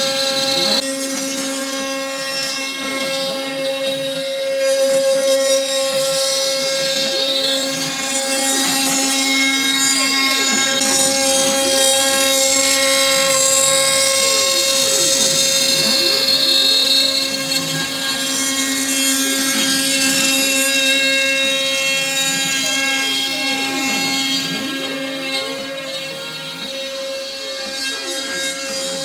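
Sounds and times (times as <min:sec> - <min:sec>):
gliding motor tones: 0:00.0 - 0:29.0
router spindle whine: 0:00.0 - 0:29.0.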